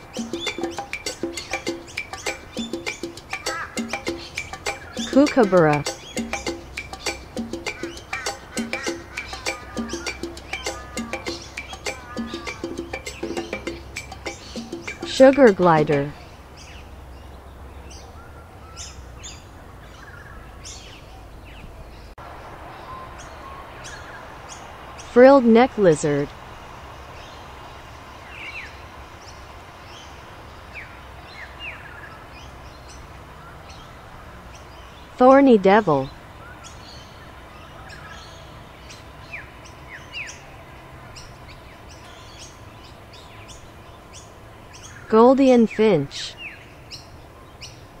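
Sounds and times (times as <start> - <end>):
small birds chirping: 0.0 - 48.0
steady outdoor hiss: 0.0 - 48.0.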